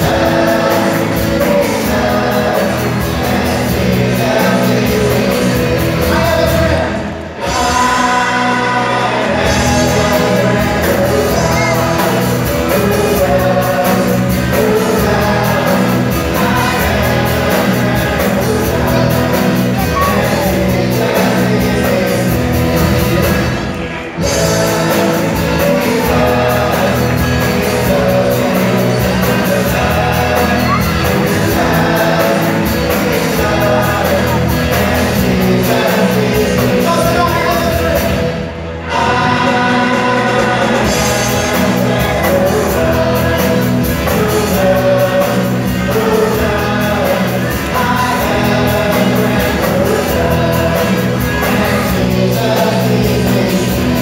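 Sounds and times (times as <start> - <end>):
group singing: 0.0 - 54.0
live band playing worship song: 0.0 - 54.0.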